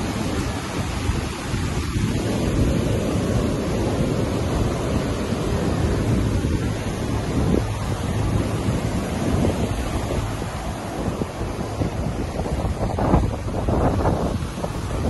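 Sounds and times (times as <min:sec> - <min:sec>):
sea surf breaking on beach: 0:00.0 - 0:15.0
wind buffeting microphone: 0:00.0 - 0:15.0.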